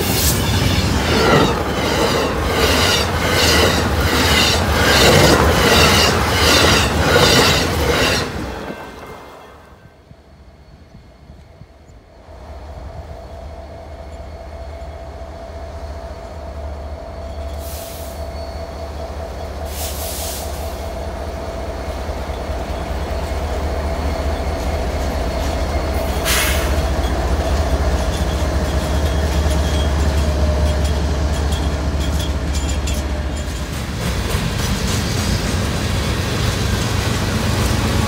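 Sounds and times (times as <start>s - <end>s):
diesel locomotive engines: 0.0s - 38.0s
train cars rumbling over rails: 0.0s - 38.0s.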